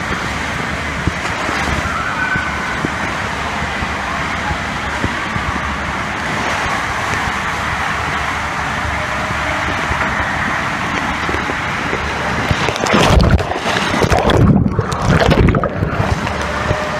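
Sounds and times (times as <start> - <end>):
water rushing down a slide: 0.0 - 16.9.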